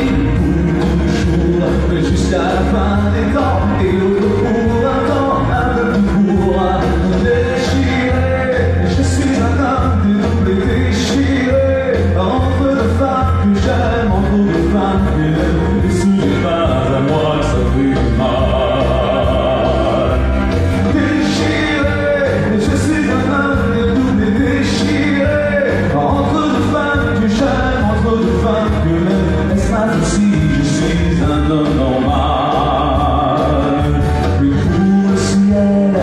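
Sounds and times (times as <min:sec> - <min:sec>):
man singing into a microphone: 0:00.0 - 0:36.0
music accompaniment: 0:00.0 - 0:36.0.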